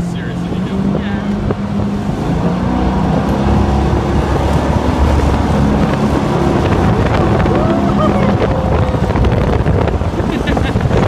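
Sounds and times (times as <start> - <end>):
outboard engine drone: 0.0 - 11.0.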